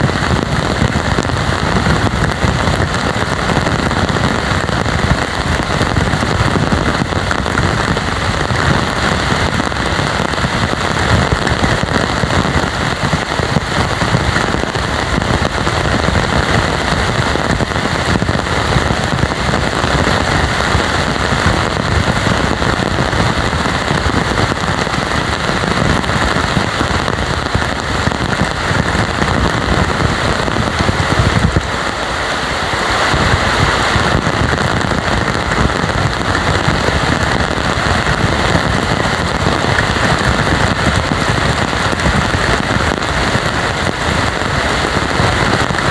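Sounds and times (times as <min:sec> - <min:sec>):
heavy rain on ground and foliage: 0:00.0 - 0:45.9.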